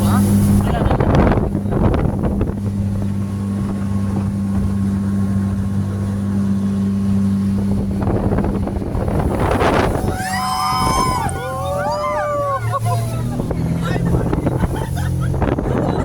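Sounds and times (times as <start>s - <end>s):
speedboat engine running: 0.0s - 16.0s
wind noise on microphone: 0.0s - 16.0s.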